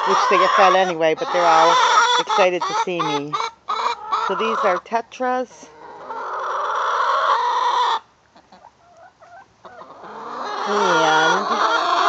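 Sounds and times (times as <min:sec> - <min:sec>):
hens calling: 0:00.0 - 0:12.0
hens clucking: 0:00.0 - 0:12.0.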